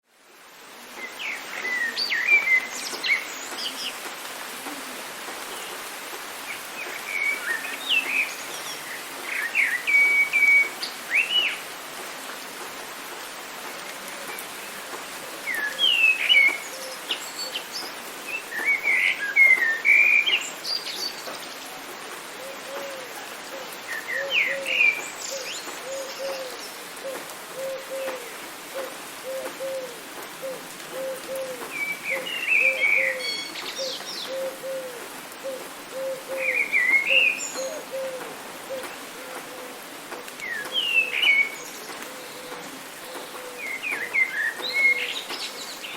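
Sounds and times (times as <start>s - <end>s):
rain hiss: 0.0s - 45.9s
songbirds chirping: 0.2s - 45.9s.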